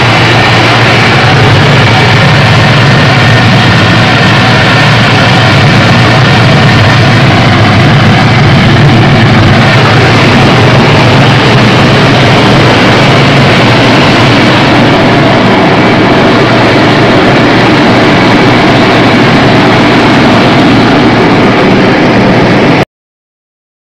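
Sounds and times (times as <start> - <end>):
rice milling machine drone: 0.0 - 22.8.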